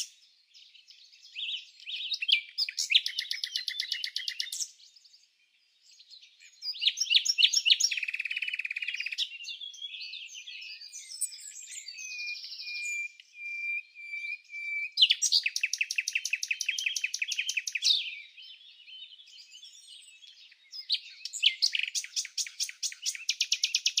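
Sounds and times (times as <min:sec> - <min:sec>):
birds singing trills and chirps: 0:00.0 - 0:24.0.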